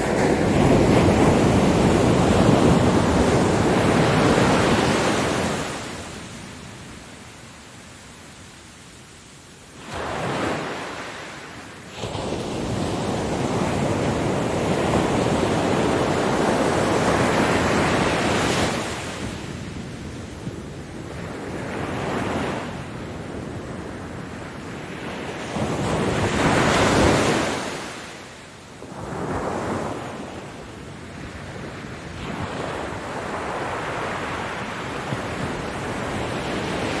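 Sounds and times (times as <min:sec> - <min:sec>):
ocean waves breaking: 0:00.0 - 0:06.8, 0:09.8 - 0:37.0.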